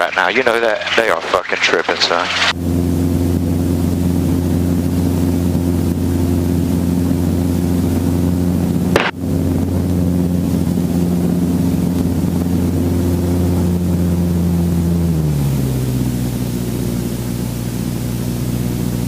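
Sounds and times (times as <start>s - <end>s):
helicopter rotor drone: 0.0s - 19.0s.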